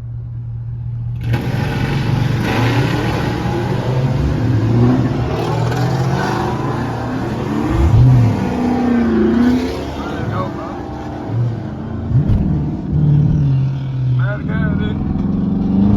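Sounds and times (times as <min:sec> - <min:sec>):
wind and road noise: 0:00.0 - 0:15.9
engine accelerating hard: 0:01.2 - 0:15.9.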